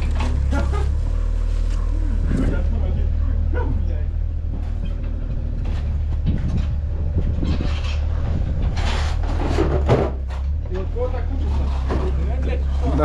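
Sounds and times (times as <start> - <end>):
low mechanical rumble: 0.0 - 13.0
rattling and knocking: 2.4 - 13.0.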